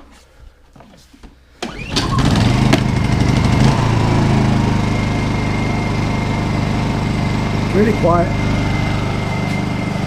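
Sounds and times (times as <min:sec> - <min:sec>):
generator engine running: 0:01.6 - 0:10.0.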